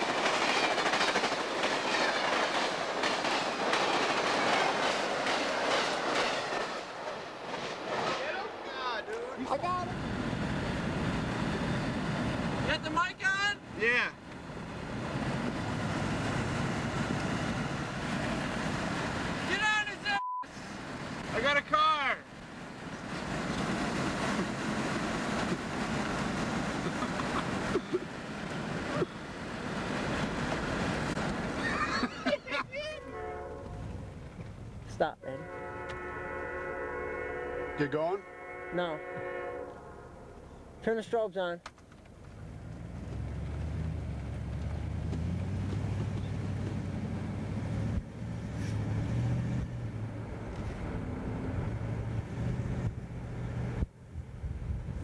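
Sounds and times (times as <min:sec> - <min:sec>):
car road noise: 0:01.4 - 0:36.4, 0:41.6 - 0:55.0.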